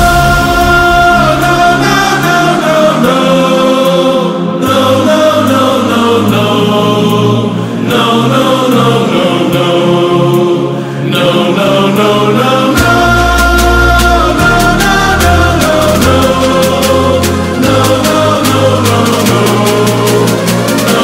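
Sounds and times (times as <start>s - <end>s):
held accompanying chords: 0.0s - 21.0s
person singing: 0.0s - 21.0s.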